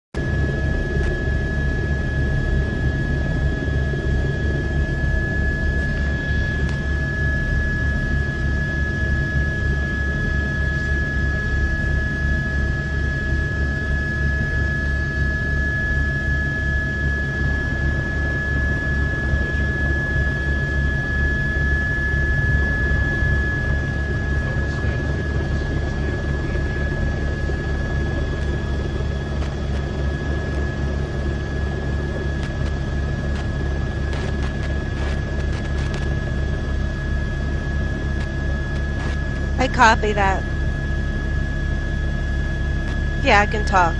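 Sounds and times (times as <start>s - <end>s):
helicopter rotor beat: 0.2s - 43.9s
turbine engine whine: 0.2s - 43.9s.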